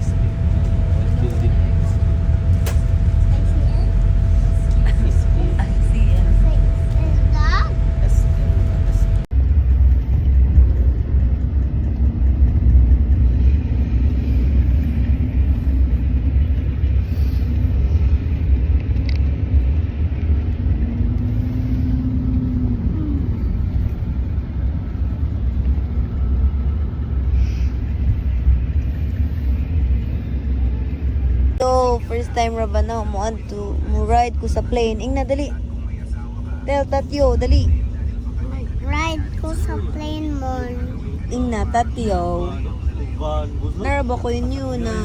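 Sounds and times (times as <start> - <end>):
vehicle interior rumble: 0.0 - 45.0.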